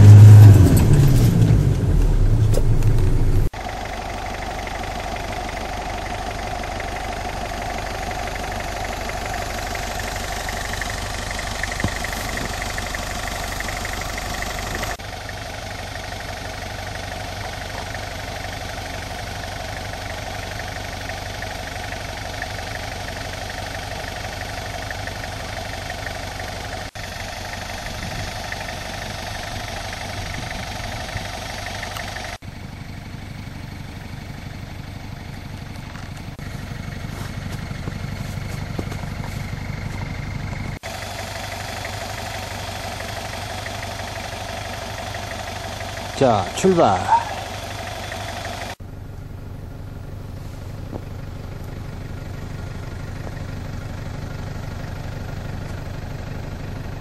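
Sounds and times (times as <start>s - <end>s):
engine running at low revs: 0.0s - 57.0s.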